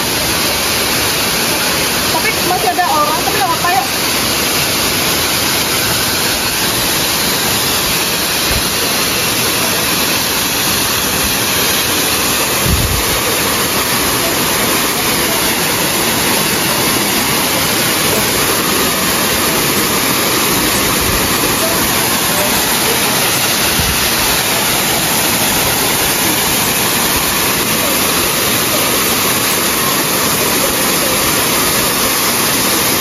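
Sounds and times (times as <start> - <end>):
waterfall pouring: 0.0 - 33.0.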